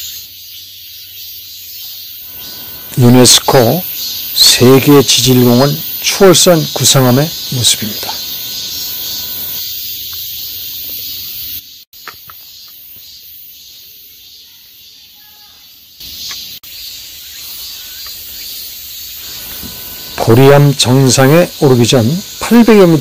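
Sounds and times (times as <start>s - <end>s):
forest ambience hiss: 0.0s - 23.0s.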